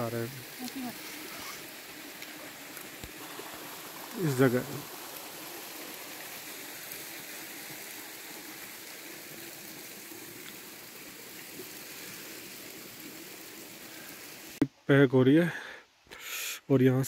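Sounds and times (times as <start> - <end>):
stream water rushing: 0.0 - 14.6.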